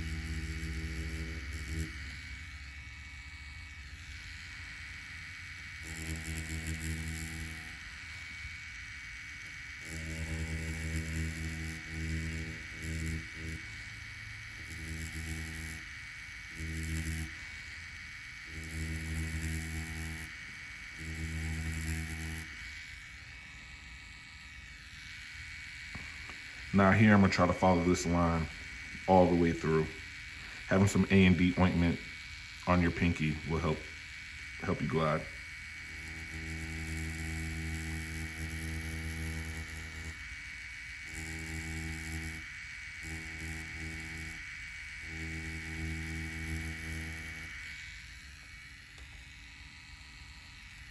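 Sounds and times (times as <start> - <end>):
tattoo pen buzzing: 0.0 - 50.9.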